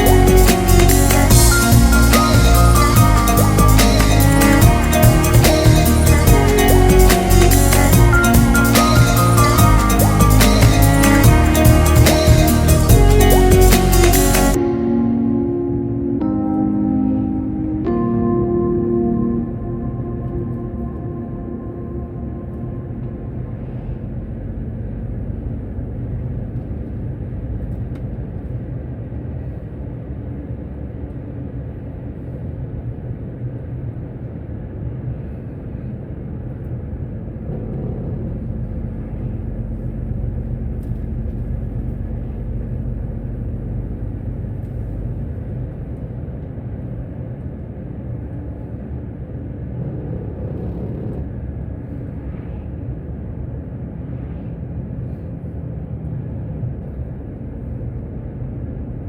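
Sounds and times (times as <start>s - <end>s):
truck driving rumble: 0.0s - 15.6s, 17.6s - 28.6s, 36.2s - 59.0s.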